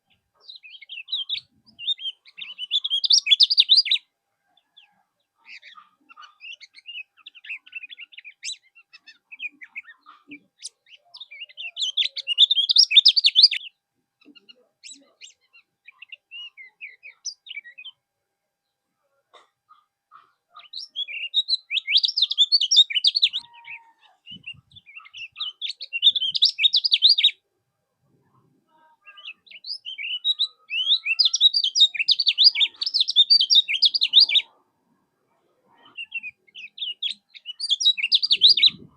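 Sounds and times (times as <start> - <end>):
bird chattering song: 0.1 - 18.0, 19.7 - 27.4, 28.3 - 34.6, 35.7 - 38.9.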